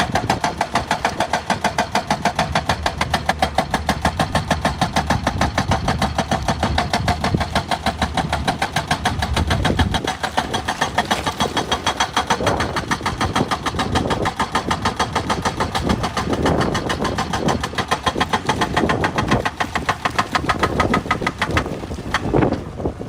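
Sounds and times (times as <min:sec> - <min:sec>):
engine pounding rapidly: 0:00.0 - 0:23.0.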